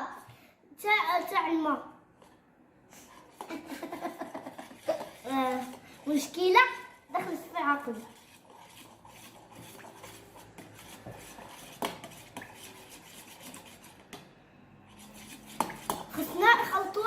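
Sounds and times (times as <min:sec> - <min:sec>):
spoon scraping slime in bowl: 0:03.1 - 0:17.0.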